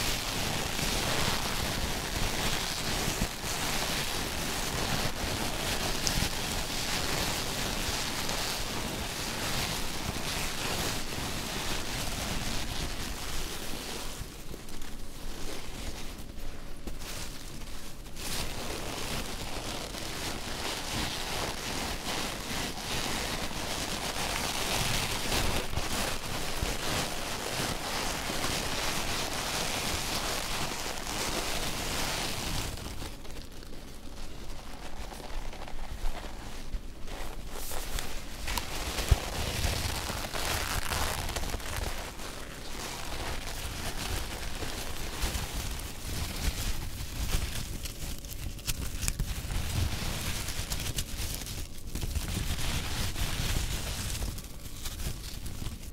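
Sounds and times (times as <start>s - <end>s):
foam packing pieces rustling: 0.0s - 55.9s.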